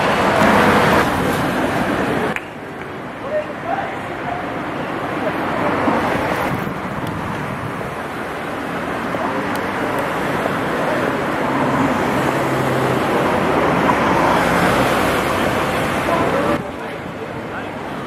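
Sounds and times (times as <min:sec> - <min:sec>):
city traffic noise: 0:00.0 - 0:18.0.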